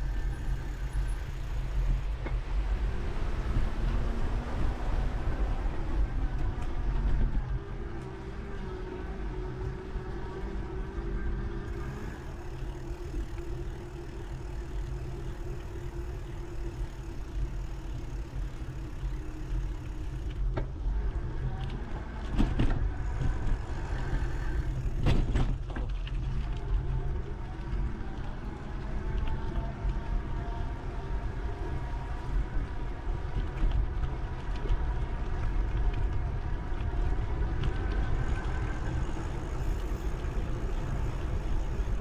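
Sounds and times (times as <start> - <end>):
wind rumble on microphone: 0.0 - 42.0.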